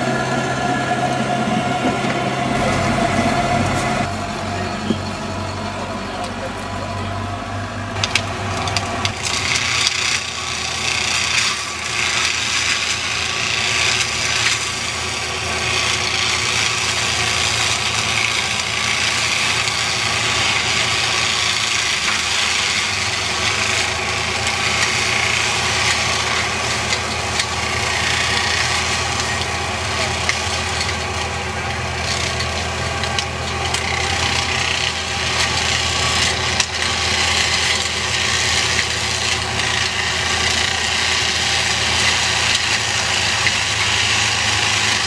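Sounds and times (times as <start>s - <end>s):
harsh scraping and grinding: 0.0s - 7.1s, 7.8s - 45.0s
excavator engine running: 0.0s - 45.0s.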